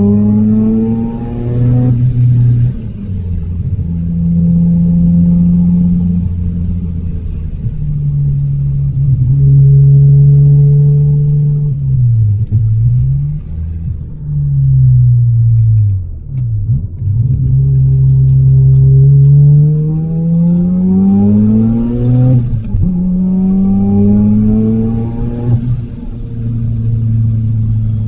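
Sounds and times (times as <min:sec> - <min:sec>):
high whine rising with revs: 0:00.0 - 0:15.9, 0:16.6 - 0:28.0
rotary engine accelerating hard: 0:00.0 - 0:28.0.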